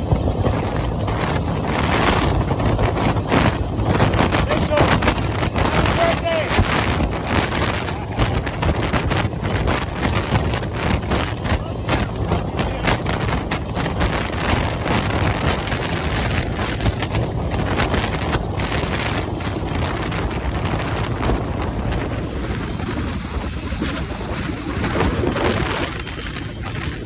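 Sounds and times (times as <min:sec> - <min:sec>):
helicopter rotor noise: 0:00.0 - 0:27.0
wind buffeting microphone: 0:00.0 - 0:27.0.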